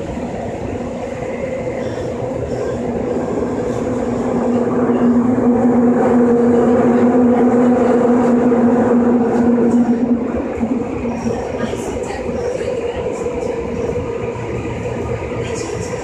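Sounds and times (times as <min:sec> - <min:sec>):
subway train rumbling in tunnel: 0:00.0 - 0:16.0.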